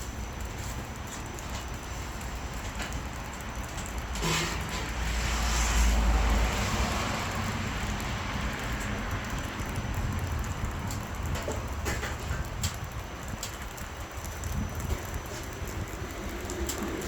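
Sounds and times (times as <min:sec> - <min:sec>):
firewood burning with crackles: 0:00.0 - 0:17.0
wind rumble on microphone: 0:00.0 - 0:17.0.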